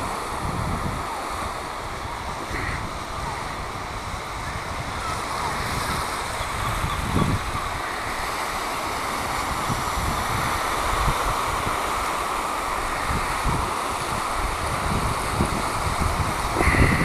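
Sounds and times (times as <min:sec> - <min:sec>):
small waves washing onto shore: 0:00.0 - 0:17.0
wind buffeting microphone: 0:00.0 - 0:17.0.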